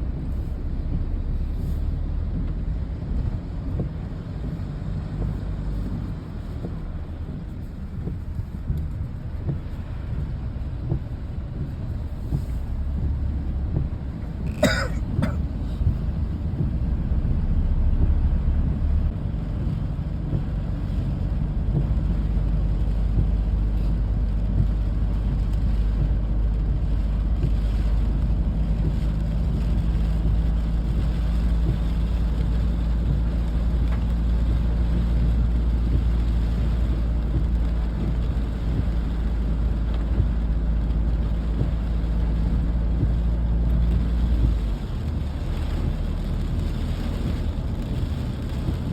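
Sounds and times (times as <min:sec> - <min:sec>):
vehicle engine rumble: 0:00.0 - 0:48.9.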